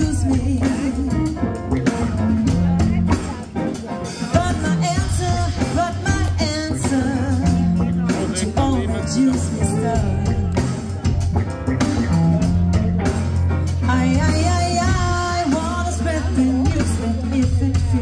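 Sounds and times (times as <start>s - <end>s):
person singing: 0.0s - 11.4s, 12.0s - 18.0s
drums: 0.0s - 18.0s
guitar: 0.0s - 18.0s.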